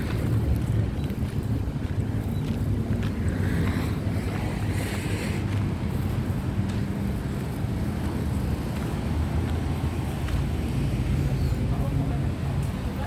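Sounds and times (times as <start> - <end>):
wind buffeting microphone: 0.0 - 12.6
vehicle rumble: 0.0 - 13.0.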